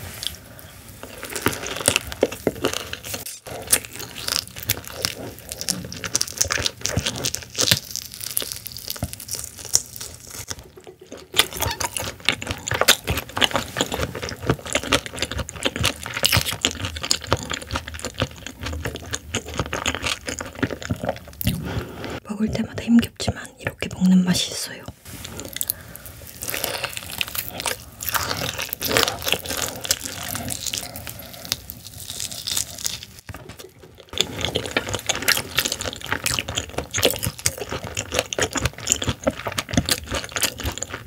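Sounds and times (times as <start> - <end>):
chewing raw fish: 1.0 - 22.2, 25.2 - 41.0.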